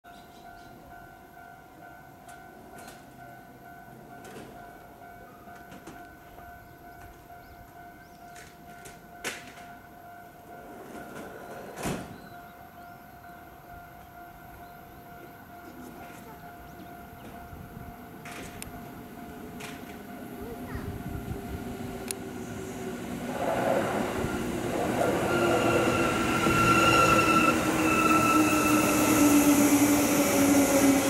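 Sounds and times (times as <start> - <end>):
railway warning alarm ringing: 0.4 - 31.0.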